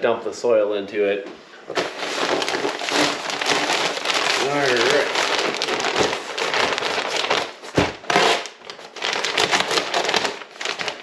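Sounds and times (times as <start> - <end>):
plastic bag crinkling: 1.7 - 11.0.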